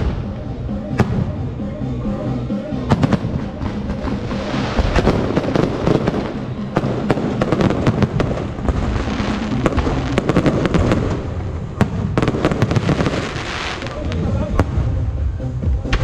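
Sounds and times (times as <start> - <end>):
fireworks bangs and crackles: 0.0 - 1.6, 2.8 - 16.0.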